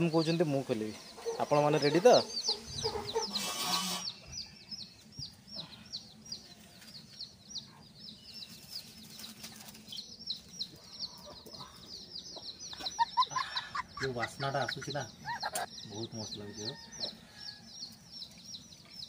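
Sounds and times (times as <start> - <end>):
birds chirping rapidly: 0.0 - 19.0.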